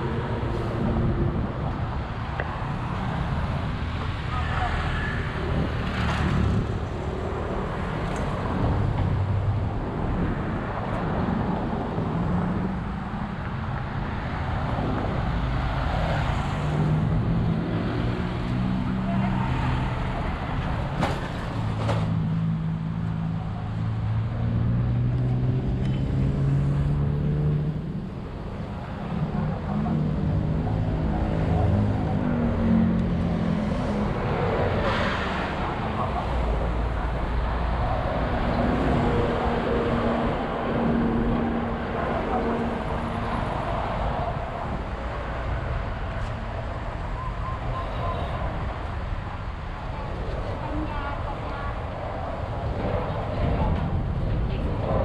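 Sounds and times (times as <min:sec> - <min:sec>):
road traffic rumble: 0:00.0 - 0:55.0
vehicle engines humming: 0:00.0 - 0:55.0.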